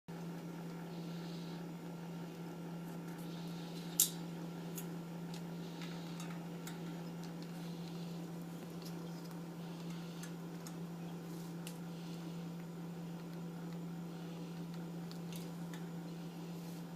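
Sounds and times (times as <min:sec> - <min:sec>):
steady low hum: 0:00.1 - 0:16.9.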